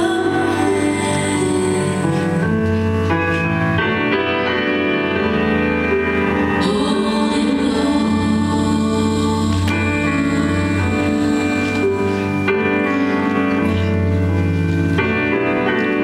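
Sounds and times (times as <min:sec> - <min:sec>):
slow music over sound system: 0:00.0 - 0:16.0.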